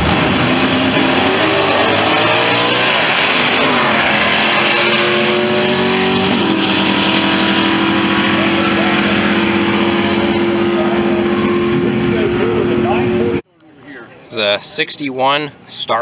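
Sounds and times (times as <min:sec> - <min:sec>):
race cars accelerating: 0:00.0 - 0:13.4.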